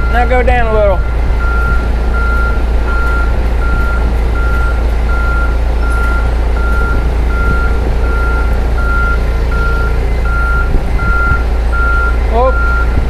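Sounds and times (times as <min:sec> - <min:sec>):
backup alarm beeping: 0:00.0 - 0:13.0
forklift engine running: 0:00.0 - 0:13.0.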